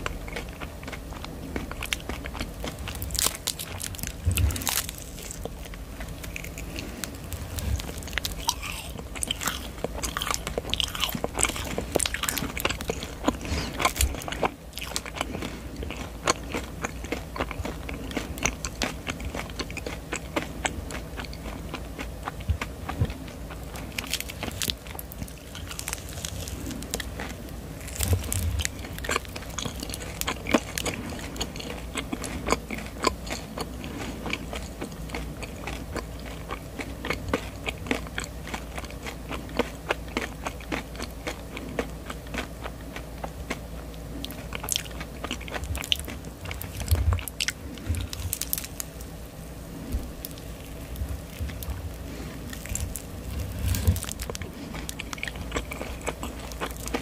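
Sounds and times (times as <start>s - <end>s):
chewing marshmallow: 0.0s - 57.0s.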